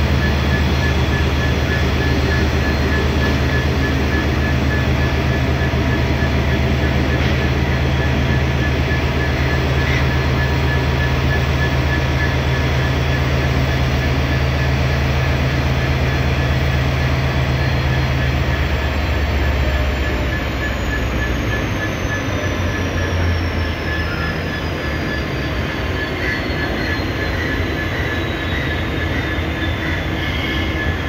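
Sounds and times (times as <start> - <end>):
high-pitched whine: 0.0 - 31.0
locomotive engine deep hum: 0.0 - 31.0.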